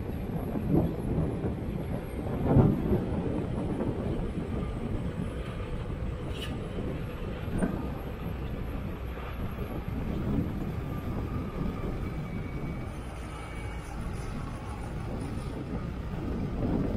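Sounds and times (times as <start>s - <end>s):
excavator diesel engines rumbling: 0.0s - 16.9s.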